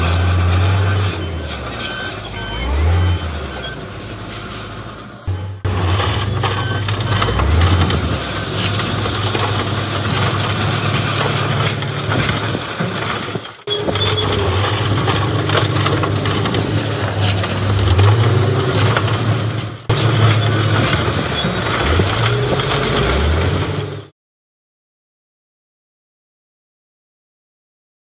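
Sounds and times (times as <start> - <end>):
metal clattering: 0.0 - 24.0
heavy machinery diesel engine: 0.0 - 24.1.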